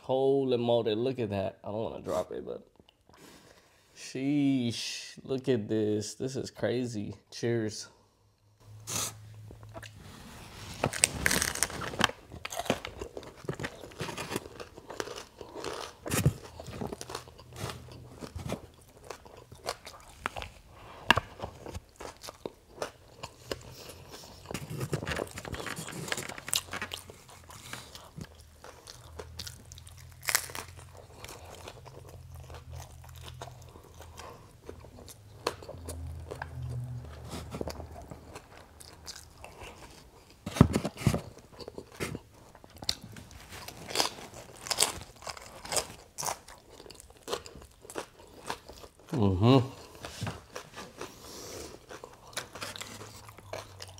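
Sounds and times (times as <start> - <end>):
crunchy food chewing: 10.7 - 53.9.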